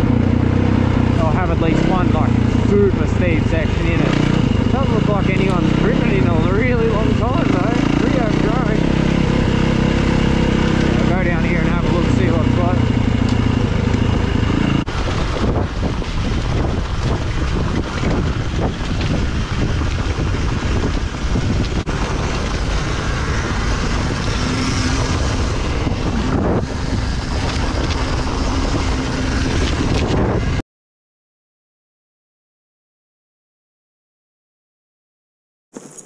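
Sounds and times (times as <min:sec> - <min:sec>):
dirt bike engine running: 0:00.0 - 0:30.6
wind buffeting on microphone: 0:00.1 - 0:30.6.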